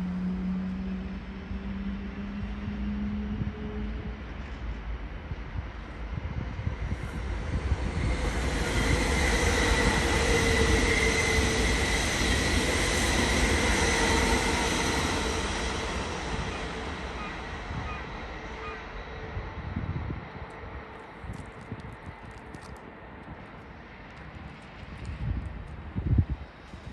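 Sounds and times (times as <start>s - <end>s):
train passing: 0.0s - 26.9s.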